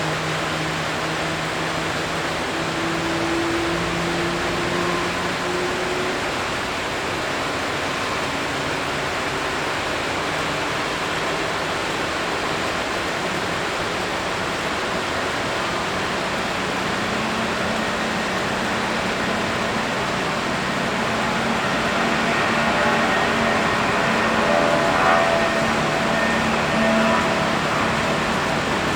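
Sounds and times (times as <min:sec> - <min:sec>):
jet engines roaring: 0:00.0 - 0:28.9.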